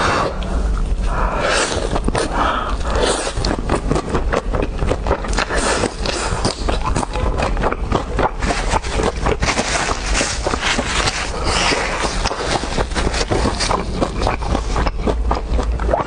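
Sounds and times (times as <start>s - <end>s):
food being chewed and crunched: 1.8s - 16.0s.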